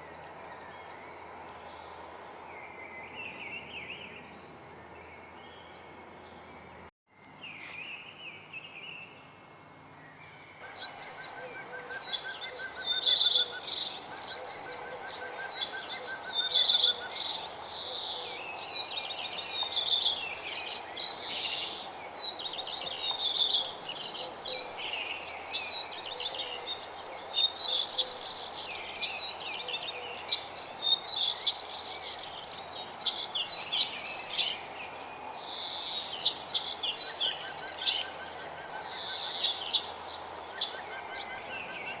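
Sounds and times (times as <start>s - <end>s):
songbird singing: 0.0s - 42.0s
steady background hiss: 0.0s - 42.0s.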